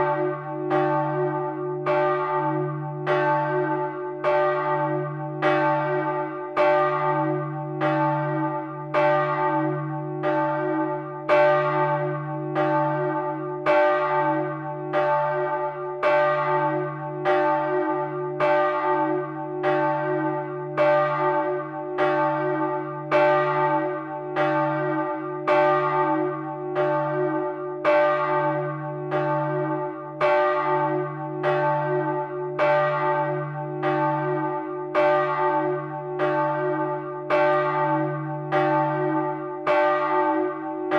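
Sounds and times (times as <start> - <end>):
church bells striking: 0.0 - 40.9.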